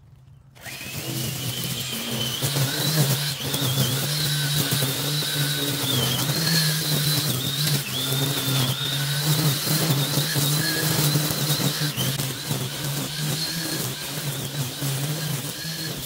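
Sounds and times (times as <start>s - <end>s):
battery strimmer motor whine: 0.6s - 16.0s.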